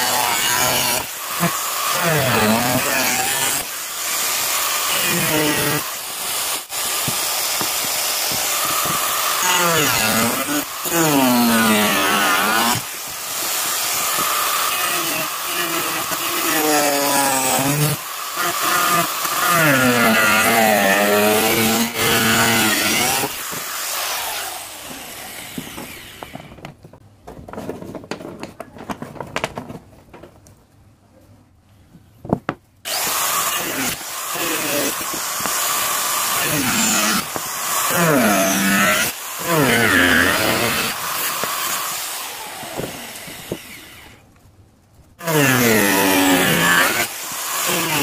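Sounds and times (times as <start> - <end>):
angle grinder cutting shell: 0.0 - 26.6, 32.9 - 44.2, 45.2 - 48.0.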